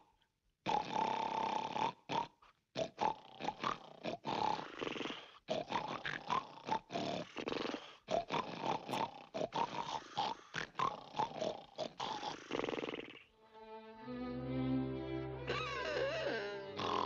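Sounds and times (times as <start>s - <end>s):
cartoon snoring: 0.6s - 13.3s, 15.5s - 17.0s.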